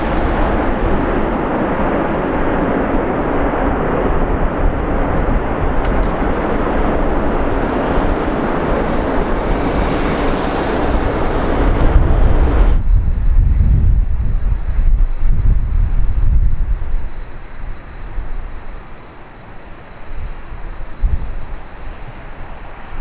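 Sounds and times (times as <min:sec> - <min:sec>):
jet engines running loud: 0:00.0 - 0:23.0
wind buffeting microphone: 0:00.0 - 0:23.0.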